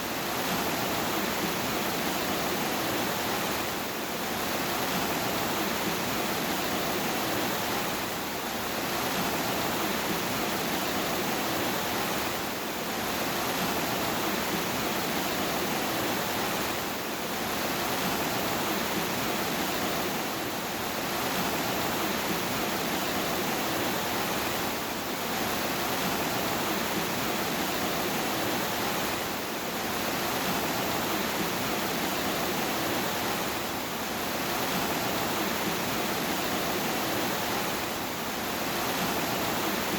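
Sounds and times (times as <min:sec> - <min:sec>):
dense rain hiss: 0:00.0 - 0:39.9.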